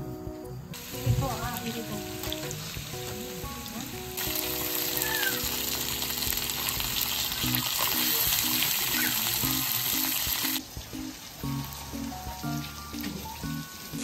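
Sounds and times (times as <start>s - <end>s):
meat sizzling on a griddle: 0.8s - 14.0s.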